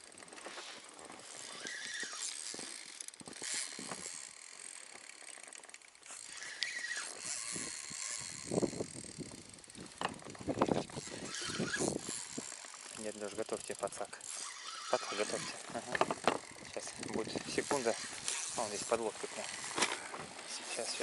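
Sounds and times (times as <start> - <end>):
fishing reel whirring and clicking: 0.0 - 21.0.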